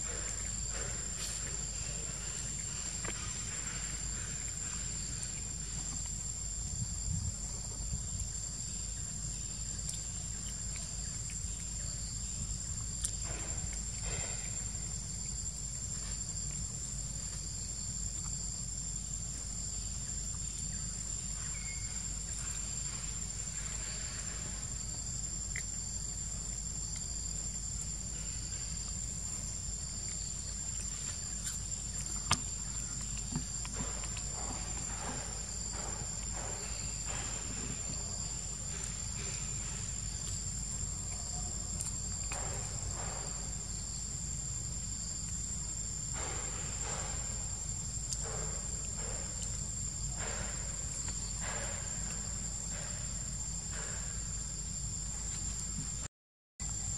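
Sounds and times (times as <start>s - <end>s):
insects droning: 0.0s - 56.9s.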